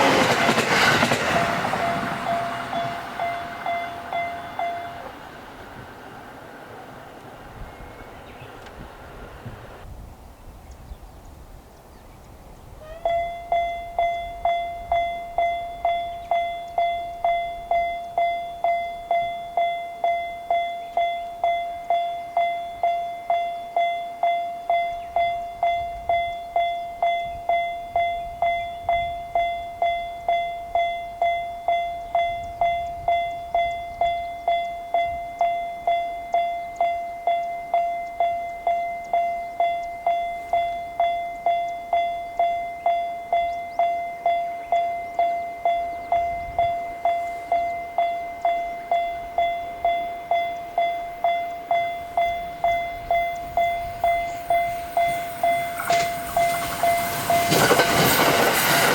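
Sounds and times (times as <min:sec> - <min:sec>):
railroad crossing warning bell: 0:00.0 - 0:09.9, 0:12.8 - 0:58.9.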